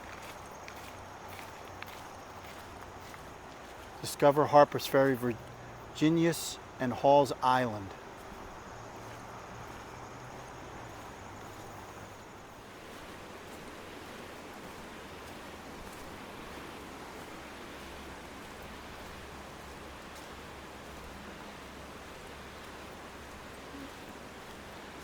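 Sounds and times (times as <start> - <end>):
river water over rapids: 0.0 - 25.0.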